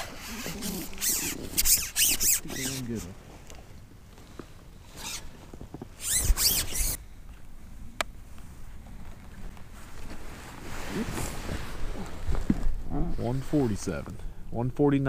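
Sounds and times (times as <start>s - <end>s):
rain gear rustling and swishing: 0.0s - 7.0s, 8.4s - 14.2s.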